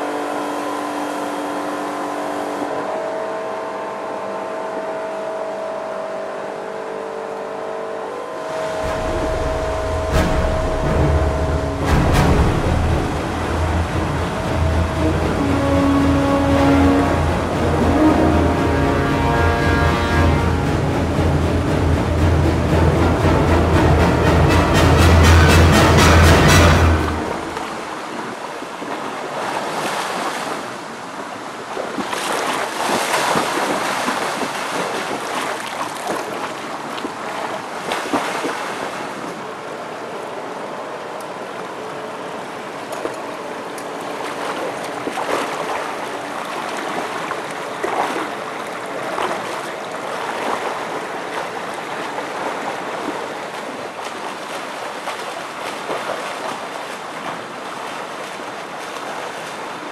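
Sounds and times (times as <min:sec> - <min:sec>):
pool water splashing: 0:08.1 - 0:59.9.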